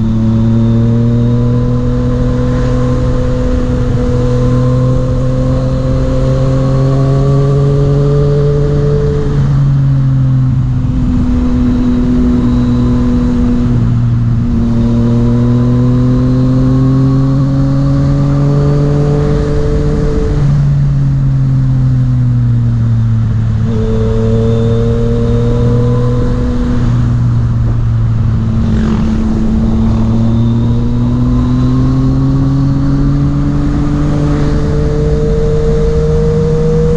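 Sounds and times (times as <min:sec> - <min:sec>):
motorcycle engine shifting gears: 0:00.0 - 0:36.9
road and wind rumble: 0:00.0 - 0:36.9.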